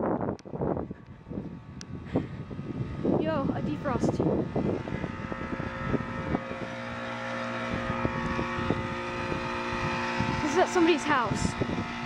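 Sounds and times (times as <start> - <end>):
loud compressor hum: 0.0 - 12.0
wind buffeting microphone: 0.0 - 12.0.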